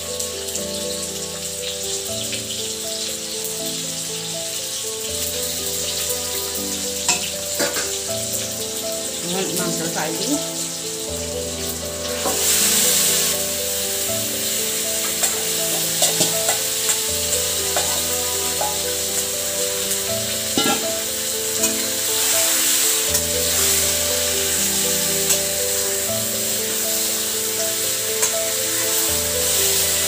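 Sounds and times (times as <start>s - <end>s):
background music: 0.0s - 30.0s
onions sizzling in oil: 0.0s - 30.0s.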